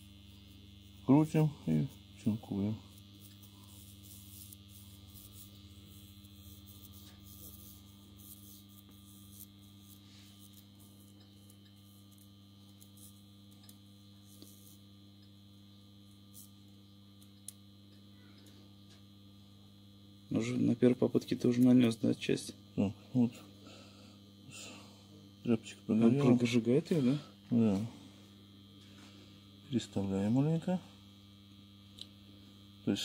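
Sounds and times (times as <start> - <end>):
faint mains hum: 0.0 - 33.0.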